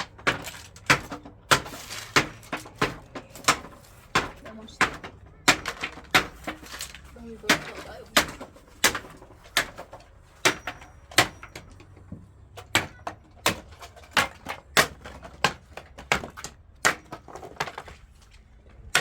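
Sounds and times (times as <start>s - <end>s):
sharp knocks of building work: 0.0s - 18.1s.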